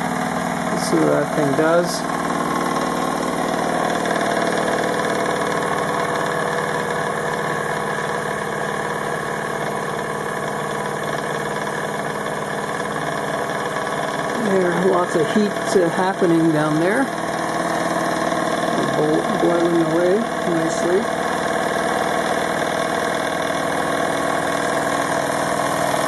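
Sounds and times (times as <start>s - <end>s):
model steam engine running: 0.0s - 26.0s.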